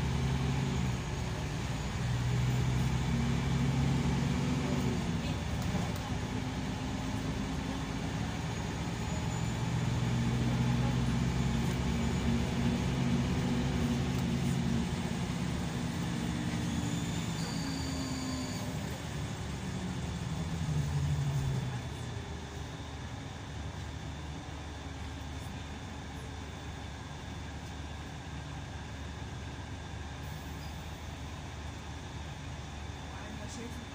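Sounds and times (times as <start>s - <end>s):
coach diesel engine: 0.0s - 33.9s
road noise: 0.0s - 33.9s.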